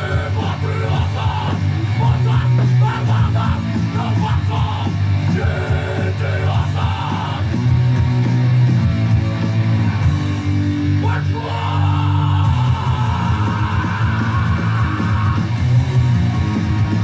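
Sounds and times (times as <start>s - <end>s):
rock music with guitars: 0.0s - 17.0s.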